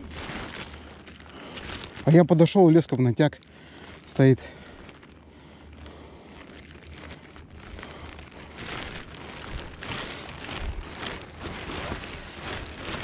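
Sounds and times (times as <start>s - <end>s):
rustling and crinkling handling: 0.0s - 13.0s.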